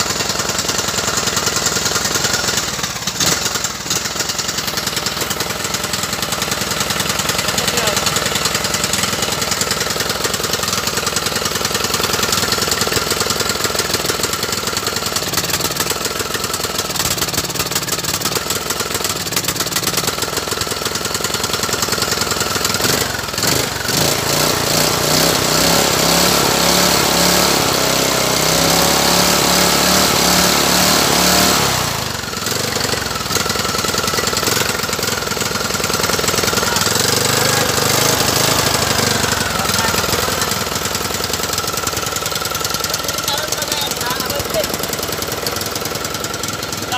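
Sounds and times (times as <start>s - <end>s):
mower engine running: 0.0s - 46.9s.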